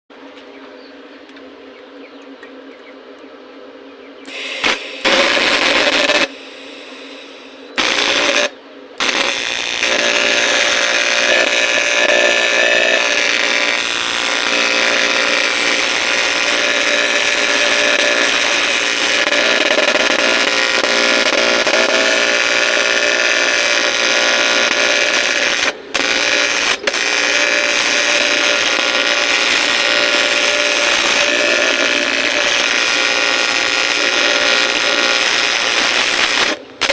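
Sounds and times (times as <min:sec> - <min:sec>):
welding arc buzzing: 0:04.3 - 0:36.9.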